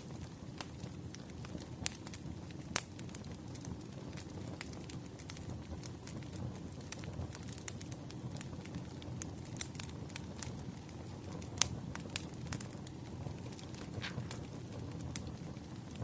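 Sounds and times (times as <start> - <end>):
firewood crackling and popping: 0.0 - 16.0
rush of flame: 0.0 - 16.0.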